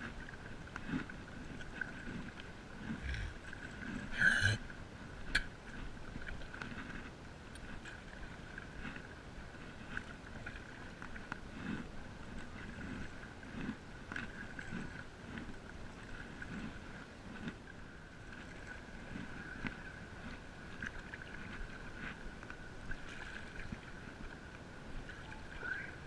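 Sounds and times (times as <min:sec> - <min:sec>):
paddle strokes in water: 0:00.0 - 0:26.0.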